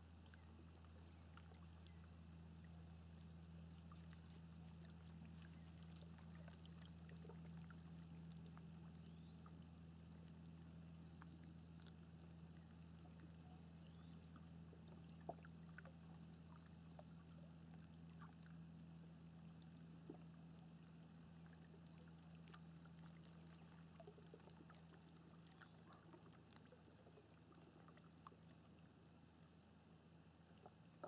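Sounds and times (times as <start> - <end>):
steady low hum: 0.0 - 31.0
water lapping and dripping: 0.0 - 31.0
small plinks and ticks: 0.2 - 18.6, 19.4 - 28.9.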